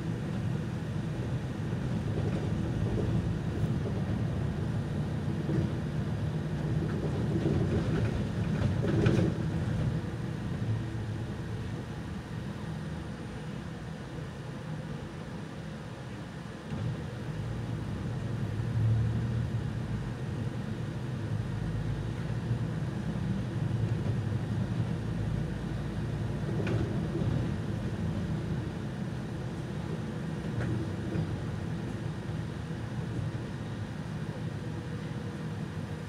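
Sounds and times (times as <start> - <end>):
bus engine and road noise: 0.0 - 36.0.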